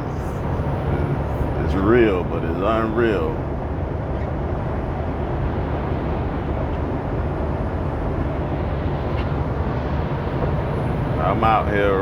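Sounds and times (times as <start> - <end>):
engine and tyre road noise: 0.0 - 12.0.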